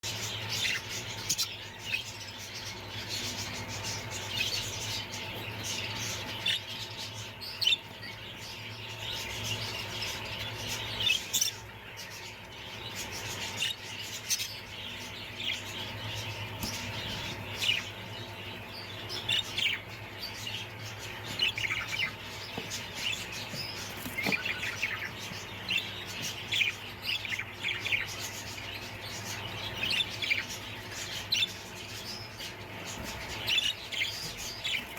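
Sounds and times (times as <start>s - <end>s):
parrots chirping and chattering: 0.0s - 34.9s.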